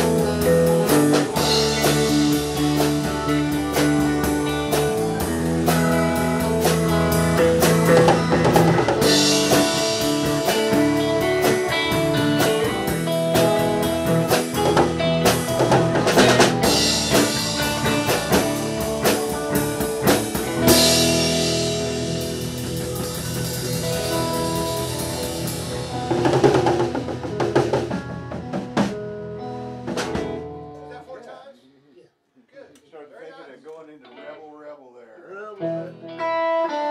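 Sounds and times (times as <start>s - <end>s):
music with drums and guitar: 0.0s - 31.1s, 35.6s - 36.9s.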